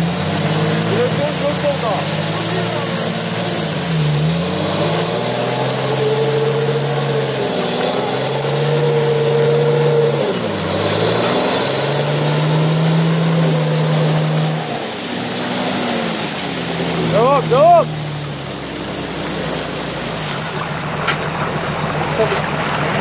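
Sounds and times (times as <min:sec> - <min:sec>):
engine revving hard: 0:00.0 - 0:21.0
wheels spinning in snow: 0:00.0 - 0:23.0.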